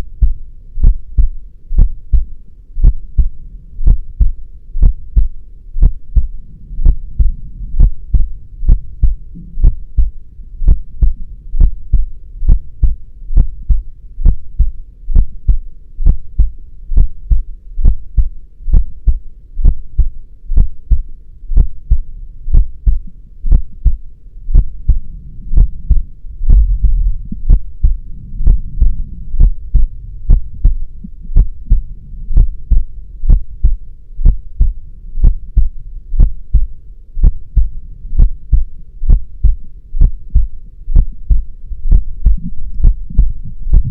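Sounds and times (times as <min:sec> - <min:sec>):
heartbeat thumps: 0:00.0 - 0:43.9
low hum: 0:00.0 - 0:43.9.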